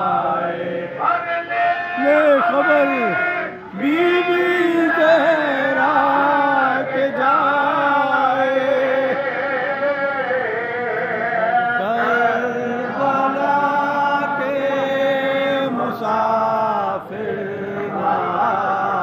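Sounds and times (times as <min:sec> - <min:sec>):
men chanting lament: 0:00.0 - 0:19.0.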